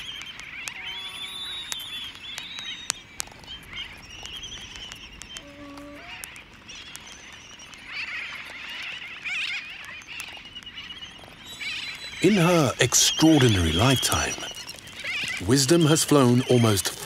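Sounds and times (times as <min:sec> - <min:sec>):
albatross colony calling: 0:00.0 - 0:17.0
chick high chattering calls: 0:00.0 - 0:17.0
sharp clicks: 0:00.0 - 0:17.0.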